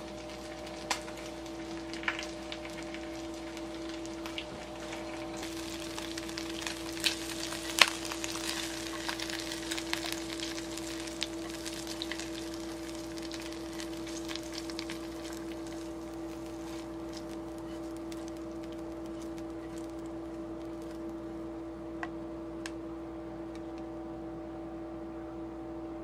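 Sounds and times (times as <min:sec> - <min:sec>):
food crackles and clicks: 0:00.0 - 0:22.8
steady low hum: 0:00.0 - 0:26.0.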